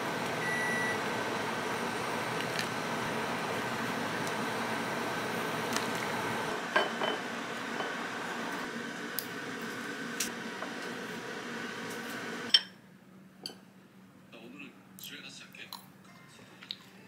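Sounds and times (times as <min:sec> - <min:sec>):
kitchen hum: 0:00.0 - 0:13.7.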